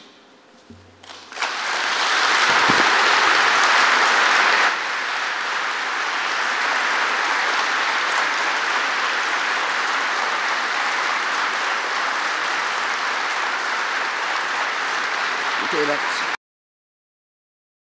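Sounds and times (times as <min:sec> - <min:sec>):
audience applauding: 0:01.0 - 0:16.4.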